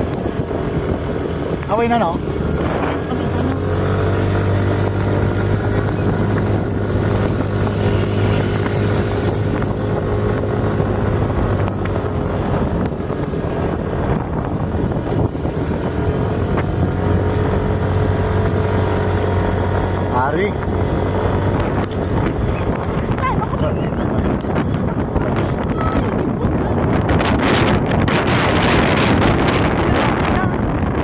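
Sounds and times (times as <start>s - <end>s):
vehicle engine running steadily: 0.0s - 31.0s
wind noise on microphone: 0.0s - 31.0s.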